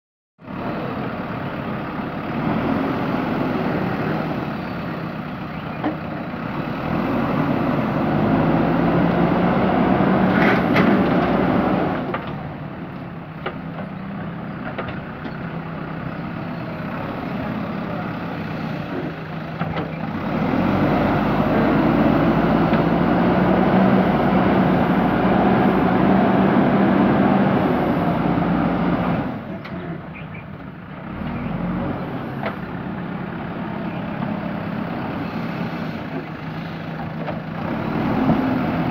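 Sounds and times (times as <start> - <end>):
diesel engine working: 0.4 - 38.9.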